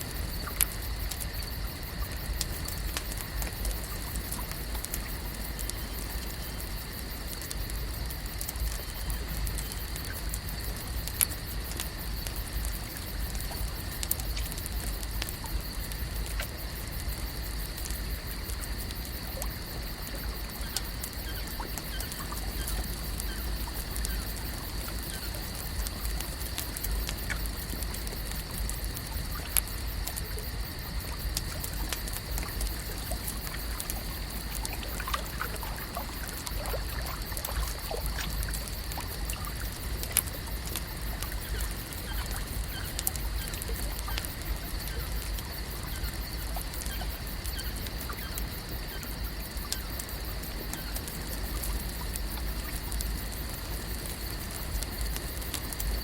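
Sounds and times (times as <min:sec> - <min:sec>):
water lapping and trickling: 0:00.0 - 0:11.2, 0:11.8 - 0:56.0
small drips and clicks: 0:00.0 - 0:56.0.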